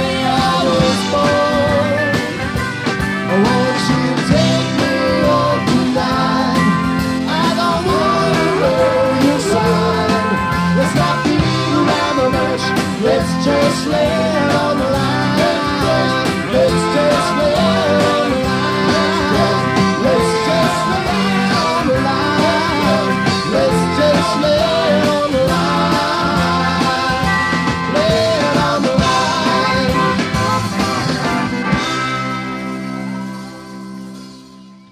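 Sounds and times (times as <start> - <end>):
country rock band playing: 0.0 - 34.9.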